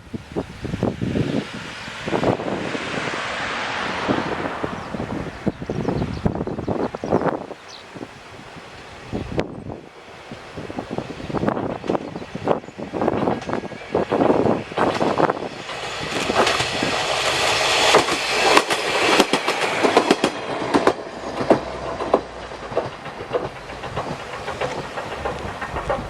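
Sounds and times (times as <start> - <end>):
diesel railcar running: 0.0 - 26.0
wheels clacking over rail joints: 0.8 - 26.0.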